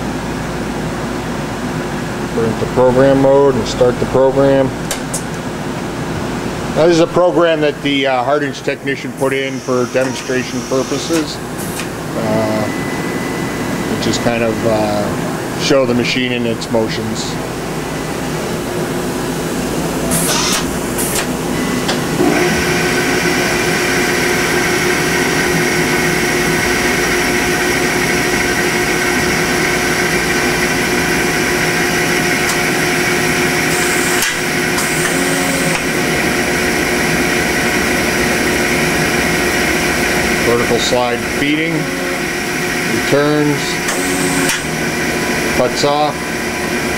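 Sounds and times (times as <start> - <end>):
machine whine of several tones: 2.3 - 46.9.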